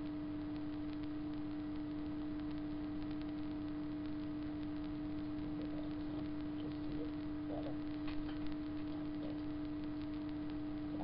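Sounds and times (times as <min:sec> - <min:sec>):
background hiss: 0:00.0 - 0:11.0
electrical hum: 0:00.0 - 0:11.0
faint light ticks: 0:00.4 - 0:10.6.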